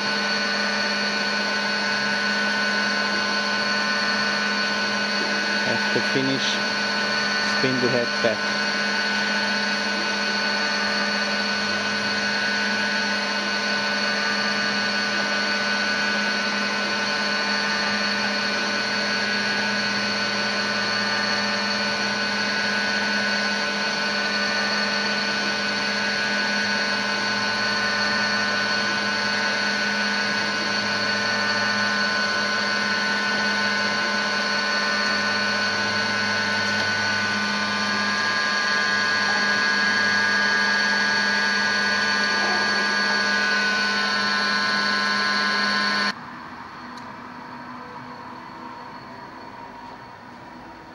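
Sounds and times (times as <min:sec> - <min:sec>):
grinder machine hum: 0:00.0 - 0:50.9.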